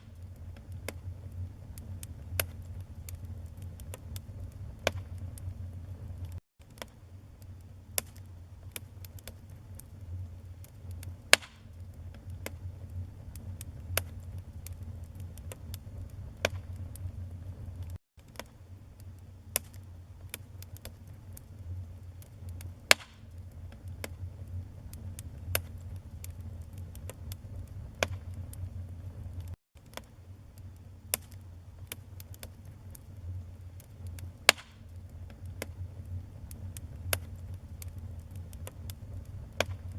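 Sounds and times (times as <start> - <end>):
low rumble of flames: 0.0 - 39.9
sharp pops from burning logs: 0.0 - 39.9
wood fire crackling: 0.0 - 39.9.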